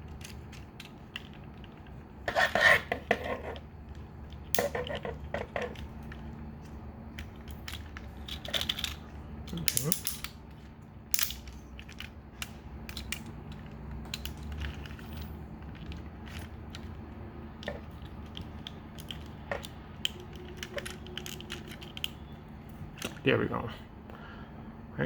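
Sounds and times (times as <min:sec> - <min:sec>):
plastic toy clicks and rattles: 0:00.0 - 0:02.0, 0:02.8 - 0:22.3
steady low hum: 0:00.0 - 0:25.0.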